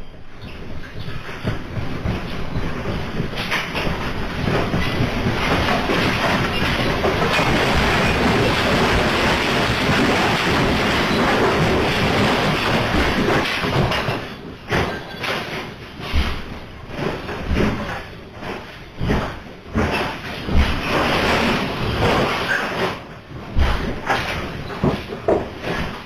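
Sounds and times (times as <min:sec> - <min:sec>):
building rumbling and rattling: 0:00.0 - 0:26.0.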